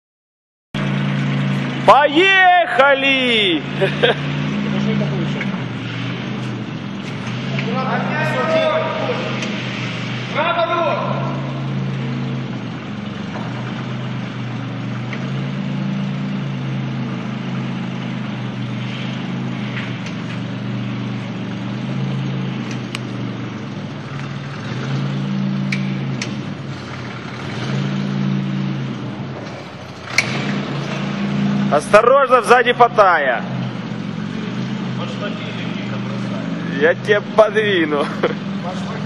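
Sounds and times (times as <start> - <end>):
engine running and revving: 0.8 - 39.0.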